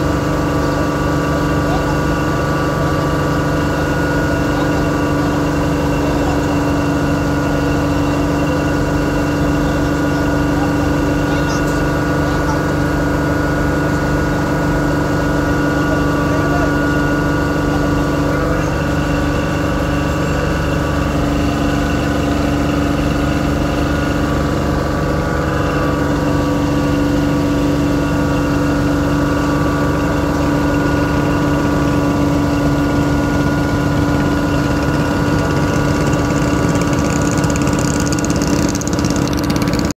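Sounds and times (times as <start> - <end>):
engine droning: 0.0 - 40.0.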